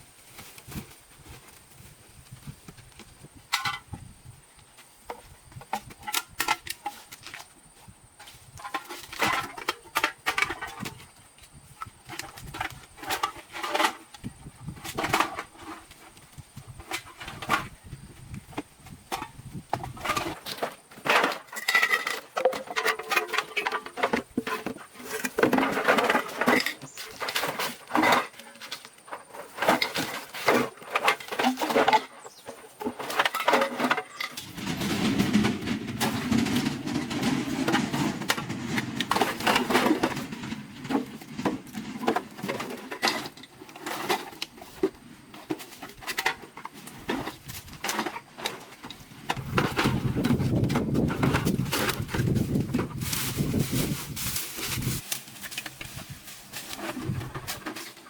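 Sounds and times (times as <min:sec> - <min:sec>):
objects clattering and knocking: 0:02.4 - 0:04.3, 0:05.0 - 0:58.0.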